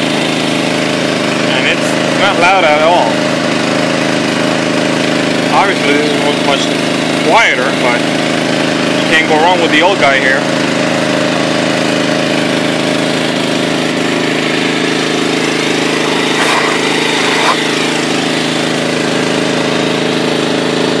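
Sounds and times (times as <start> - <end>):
generator engine hum: 0.0 - 21.0
shop vacuum motor whine: 0.0 - 21.0.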